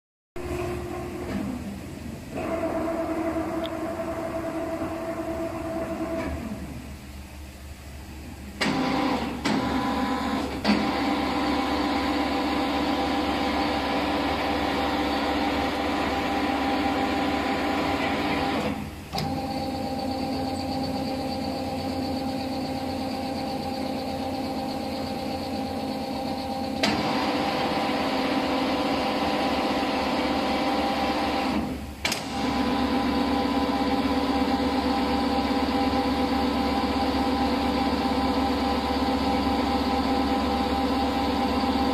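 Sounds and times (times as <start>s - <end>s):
machine whine and hum: 0.4s - 41.9s.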